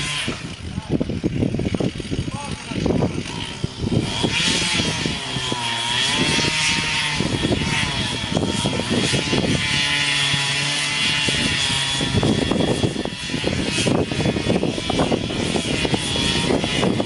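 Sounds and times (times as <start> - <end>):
chainsaw cutting: 0.0 - 17.0.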